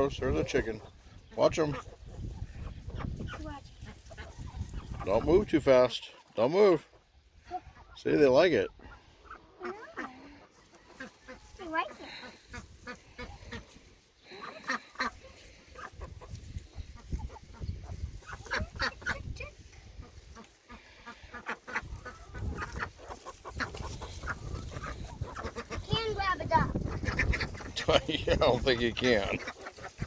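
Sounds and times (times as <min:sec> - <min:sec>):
ducks and chickens calling: 0:00.0 - 0:30.0.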